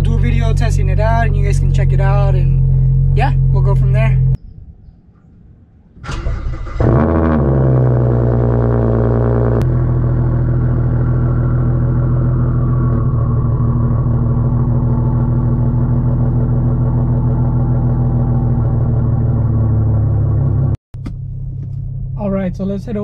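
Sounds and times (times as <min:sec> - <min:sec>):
car exhaust idling: 0:00.0 - 0:04.3, 0:06.6 - 0:22.8.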